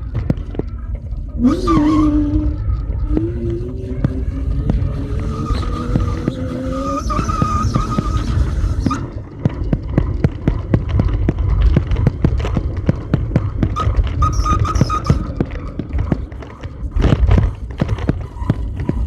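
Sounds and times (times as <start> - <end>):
bicycle rattling over rough surface: 0.0 - 19.0
high steady squeal: 0.6 - 11.1, 12.0 - 19.0.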